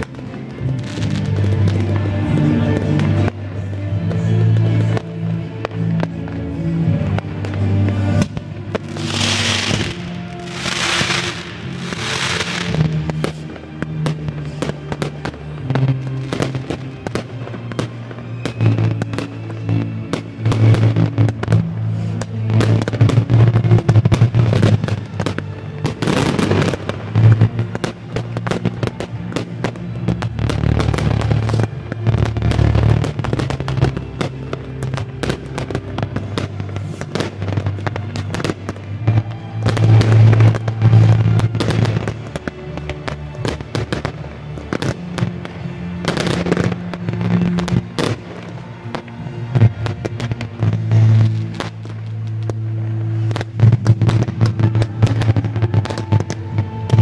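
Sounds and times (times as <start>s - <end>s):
fireworks bursting and crackling: 0.0s - 57.0s
music playing: 0.0s - 57.0s.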